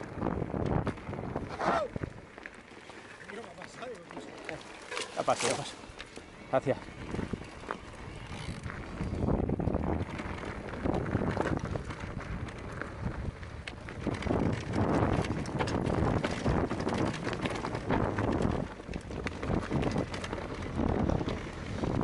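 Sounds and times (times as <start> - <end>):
wind buffeting microphone: 0.0 - 2.4, 6.5 - 22.0
bike rattling and knocking: 0.0 - 22.0
tyres crunching over gravel: 0.5 - 22.0.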